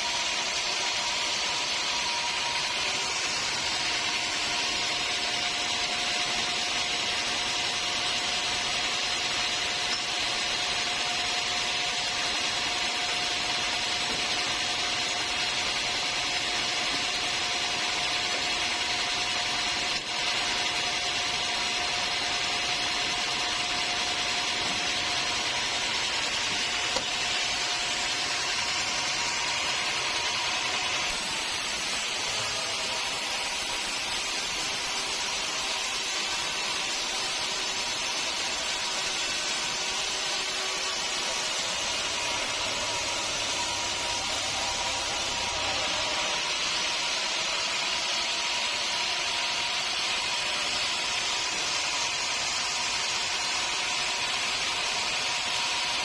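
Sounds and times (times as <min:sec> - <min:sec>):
sawmill machinery sawing timber: 0:00.0 - 0:56.0.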